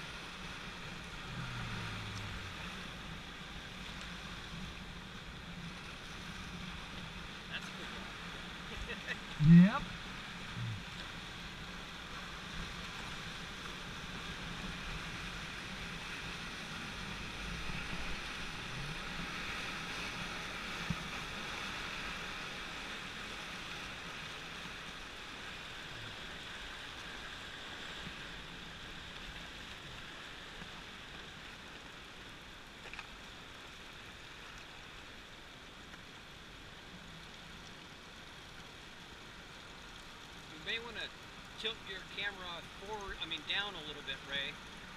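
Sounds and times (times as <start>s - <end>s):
whitewater rushing and splashing: 0.0s - 44.9s.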